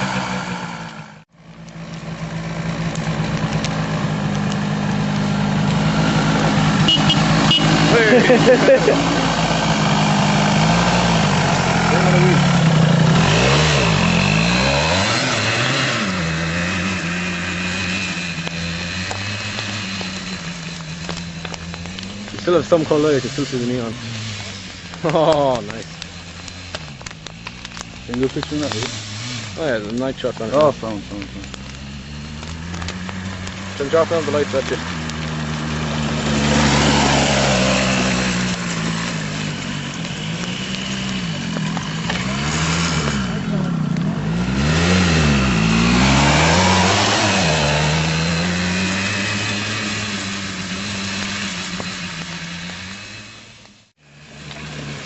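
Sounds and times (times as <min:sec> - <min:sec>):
go-kart engine revving and idling: 0:00.0 - 0:55.0.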